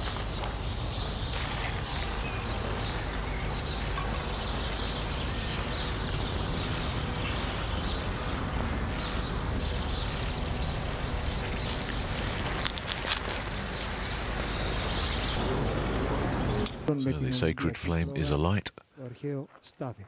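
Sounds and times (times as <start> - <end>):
small birds chirping: 0.0 - 18.6
steady outdoor hiss: 0.0 - 20.0.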